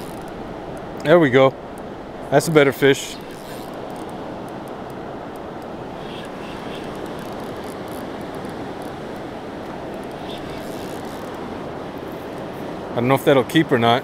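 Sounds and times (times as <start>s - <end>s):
river current rushing: 0.0s - 14.0s.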